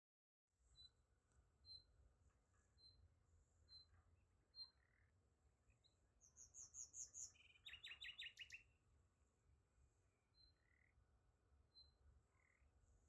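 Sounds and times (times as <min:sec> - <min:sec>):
songbird chirping and trilling: 0:00.6 - 0:08.9, 0:10.1 - 0:13.0.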